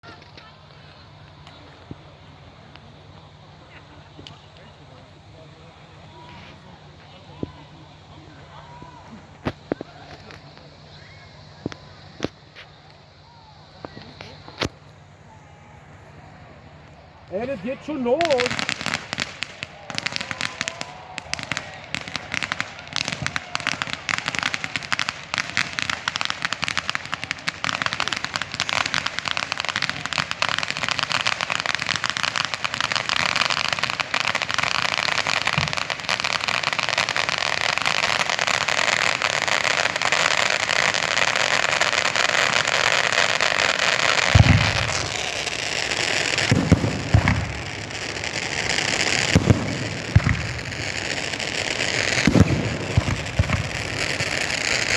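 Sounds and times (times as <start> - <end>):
fireworks booming bursts: 0.0 - 54.9
fireworks crackling and popping: 0.0 - 54.9.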